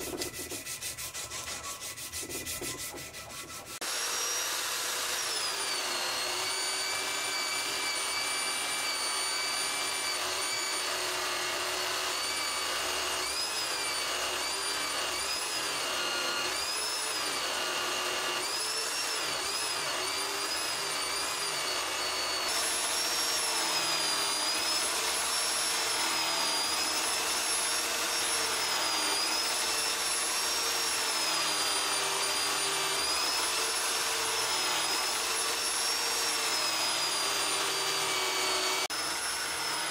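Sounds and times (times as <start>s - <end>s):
angle grinder polishing metal: 0.0s - 39.9s.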